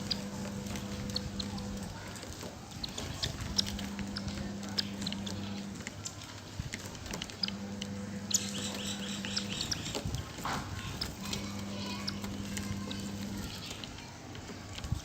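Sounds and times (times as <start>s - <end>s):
steady low hum: 0.0s - 13.8s
sparrows chirping and pecking: 0.0s - 15.0s.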